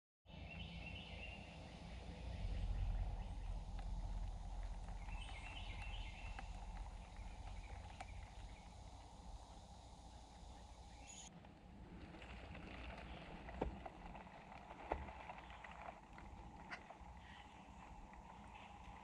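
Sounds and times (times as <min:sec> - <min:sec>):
low rumble of outdoor noise: 0:00.3 - 0:19.0.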